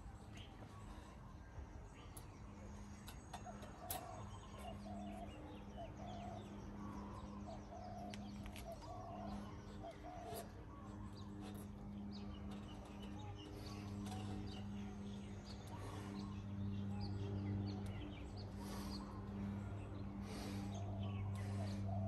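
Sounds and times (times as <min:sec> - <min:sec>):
low hum: 0:00.0 - 0:22.0
birds cooing: 0:02.9 - 0:22.0.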